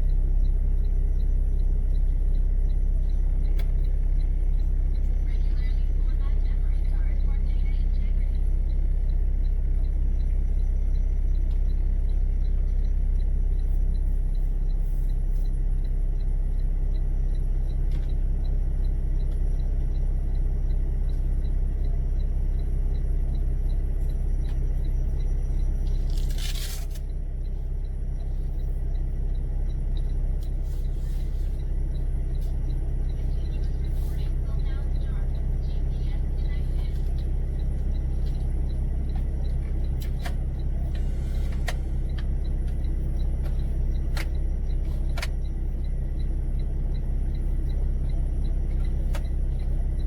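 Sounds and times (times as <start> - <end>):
diesel truck engine idling: 0.0 - 50.0
faint regular ticking: 8.2 - 50.0.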